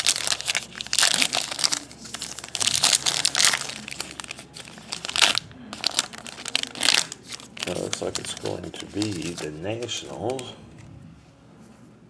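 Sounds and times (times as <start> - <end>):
foil wrapper crinkling: 0.0 - 10.5.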